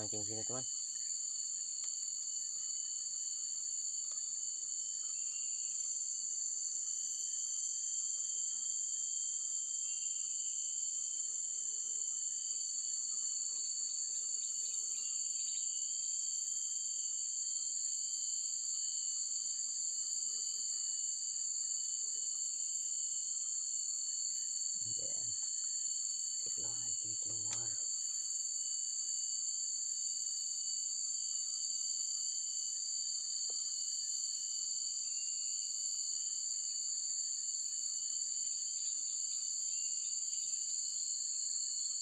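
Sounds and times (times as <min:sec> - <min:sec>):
insect trills: 0:00.0 - 0:42.0.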